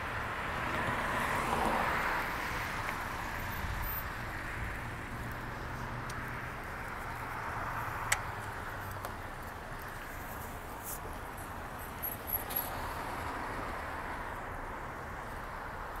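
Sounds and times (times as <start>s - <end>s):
car engines and tyres humming: 0.0s - 16.0s.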